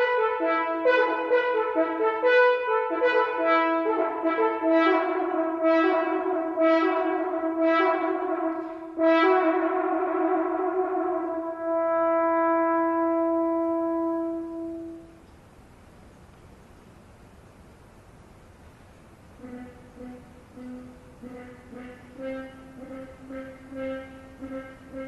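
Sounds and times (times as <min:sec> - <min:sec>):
french horn melody: 0:00.0 - 0:15.2, 0:19.3 - 0:25.0.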